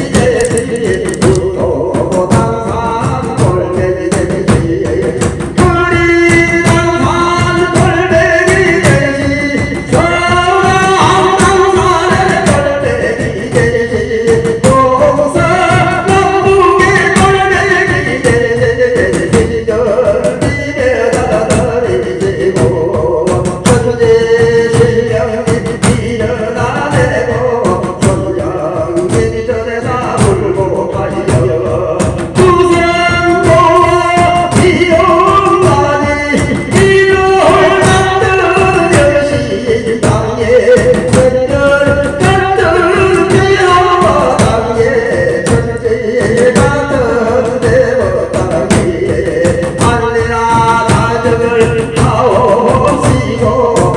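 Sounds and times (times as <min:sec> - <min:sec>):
steady drumbeat: 0:00.0 - 0:53.9.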